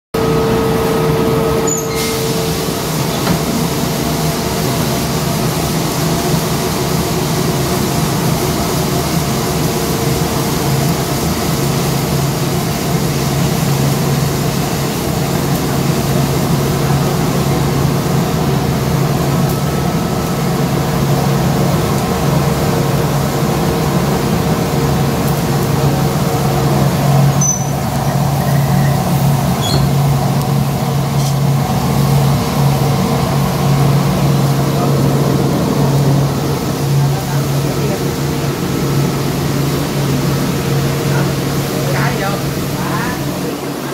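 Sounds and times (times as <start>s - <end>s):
coffee roaster machine drone: 0.2s - 43.9s.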